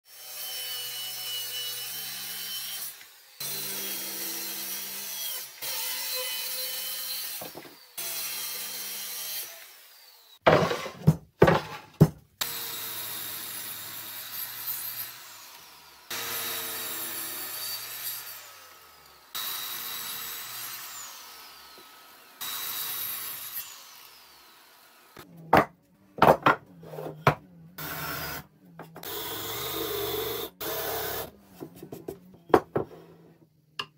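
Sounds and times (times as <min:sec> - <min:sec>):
circular saw cutting wood: 0:00.1 - 0:10.9, 0:12.4 - 0:25.3, 0:27.8 - 0:31.7
mitre saw cutting wood: 0:00.1 - 0:10.9, 0:12.4 - 0:25.3, 0:27.8 - 0:31.4.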